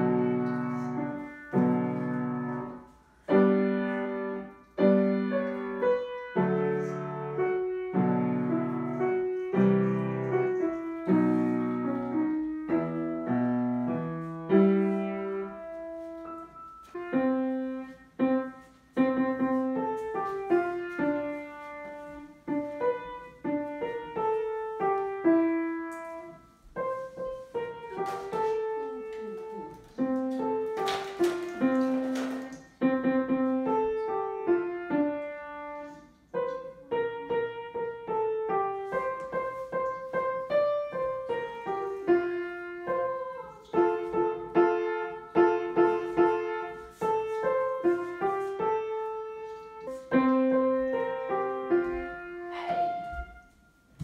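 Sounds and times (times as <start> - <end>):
piano melody: 0.0 - 54.0.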